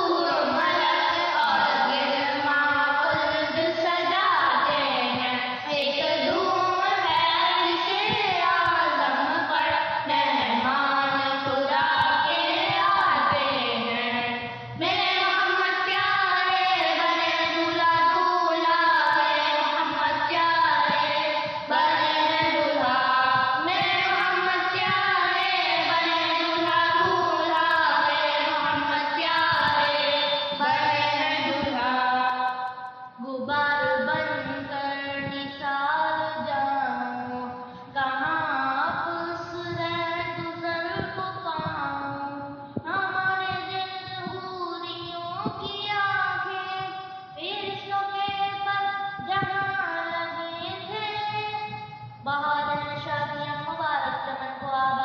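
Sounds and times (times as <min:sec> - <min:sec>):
voices singing devotional song: 0:00.0 - 0:55.0.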